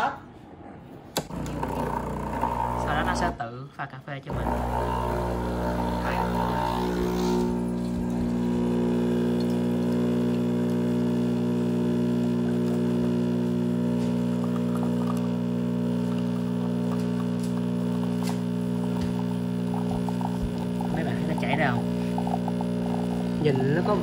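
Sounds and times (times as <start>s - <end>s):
espresso machine pump humming: 1.3s - 3.4s, 4.3s - 24.0s.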